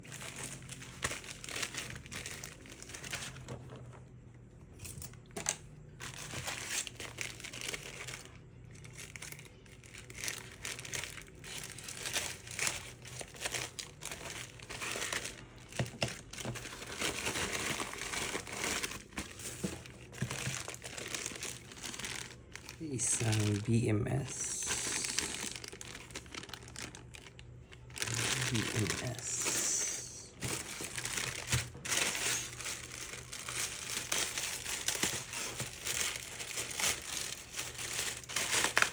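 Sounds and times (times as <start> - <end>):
packaging crinkling and tearing: 0.0 - 3.7, 5.4 - 38.9.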